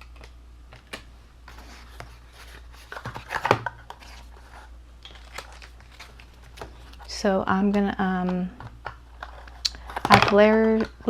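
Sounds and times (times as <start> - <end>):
card pieces rustling and tapping: 0.0 - 11.0.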